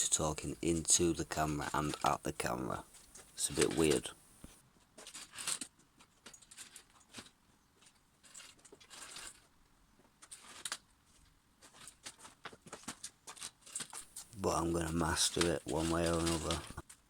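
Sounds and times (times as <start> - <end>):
faint rustles and clicks: 0.0 - 17.0.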